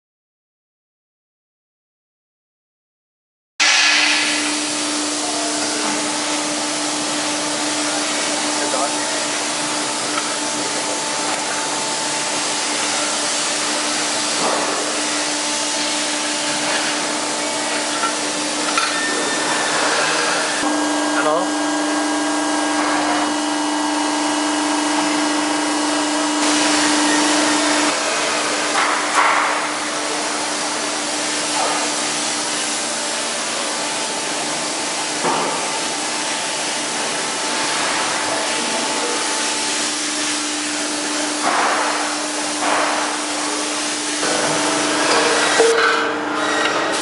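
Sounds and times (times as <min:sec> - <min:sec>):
press brake humming and hissing: 0:03.6 - 0:47.0.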